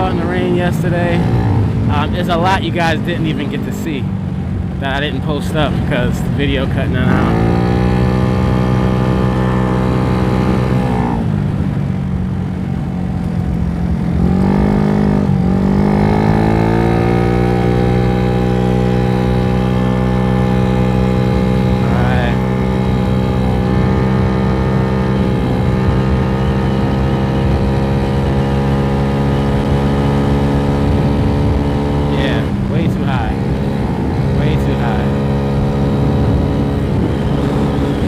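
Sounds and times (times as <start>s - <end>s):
scooter engine running: 7.1s - 38.0s.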